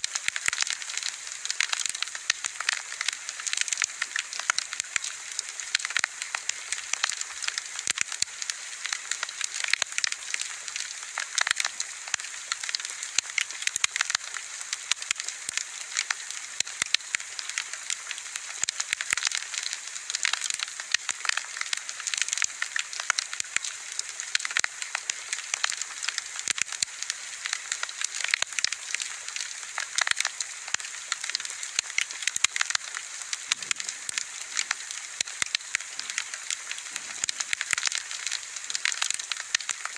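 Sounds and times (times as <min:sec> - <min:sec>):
bonfire crackling: 0:00.1 - 0:39.9.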